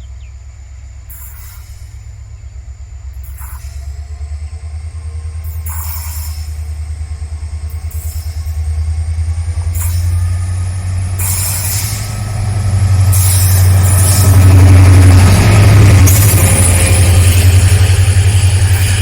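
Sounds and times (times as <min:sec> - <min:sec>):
diesel locomotive engine throbbing: 0:00.0 - 0:19.0.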